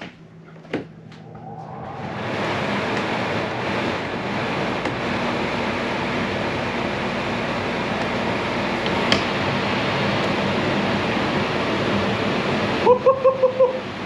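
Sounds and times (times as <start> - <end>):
air conditioner rushing air: 0.0 - 14.0.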